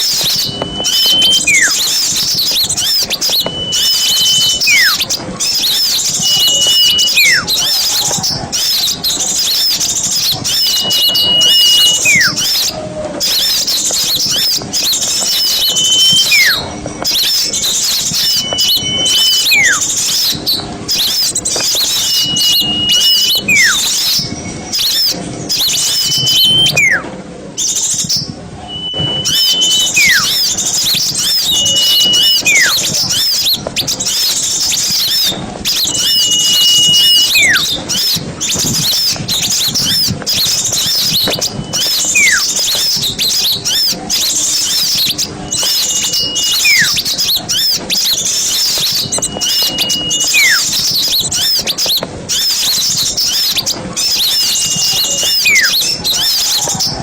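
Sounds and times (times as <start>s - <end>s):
small songbirds chattering: 0.0s - 57.0s
whistled bird call: 0.0s - 57.0s.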